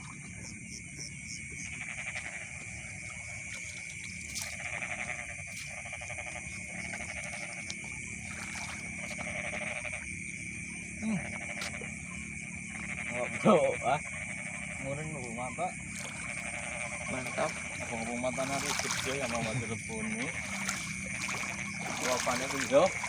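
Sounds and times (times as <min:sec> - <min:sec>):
frogs croaking: 0:00.0 - 0:23.0.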